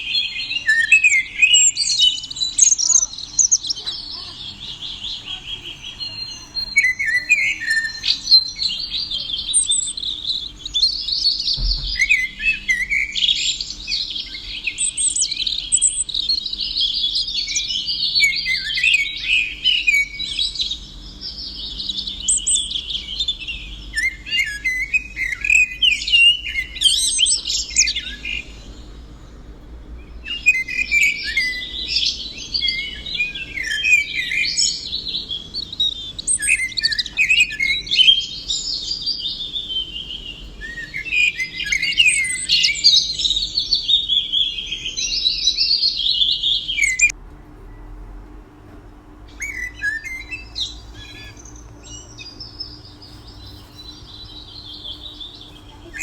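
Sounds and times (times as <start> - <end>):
faint bird chirps: 0.0 - 48.0, 49.3 - 56.0
songbird singing: 0.0 - 48.1, 49.1 - 56.0.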